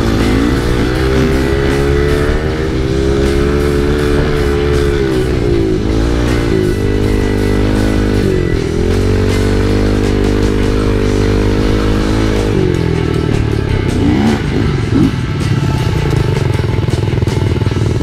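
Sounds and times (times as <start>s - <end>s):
background music: 0.0s - 18.0s
dirt bike engine revving: 0.0s - 18.0s.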